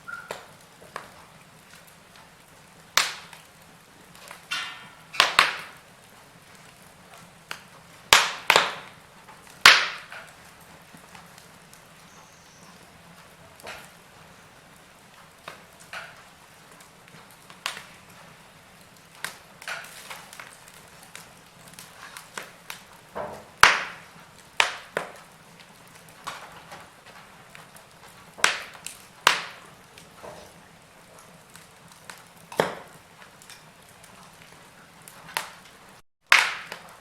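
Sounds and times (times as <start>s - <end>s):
soft steady hiss: 0.0s - 36.0s
wood fire crackling and popping: 0.0s - 37.0s.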